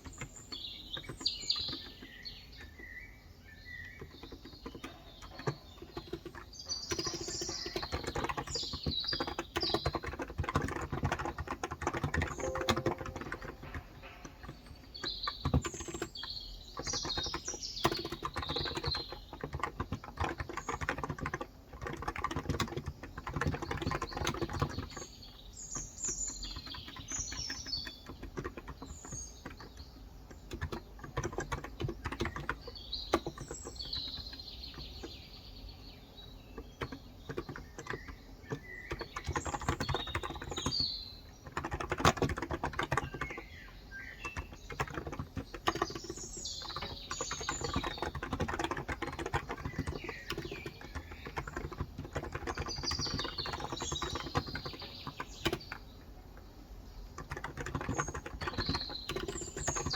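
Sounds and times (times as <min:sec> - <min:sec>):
birds chirping: 0:00.0 - 0:59.9
soft keyboard keystrokes: 0:03.9 - 0:25.0, 0:26.3 - 0:35.2, 0:36.4 - 0:59.9.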